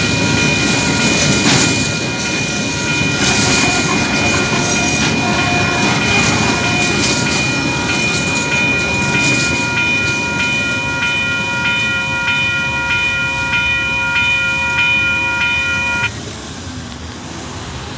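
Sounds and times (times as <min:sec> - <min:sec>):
level crossing warning bell: 0:00.0 - 0:16.2.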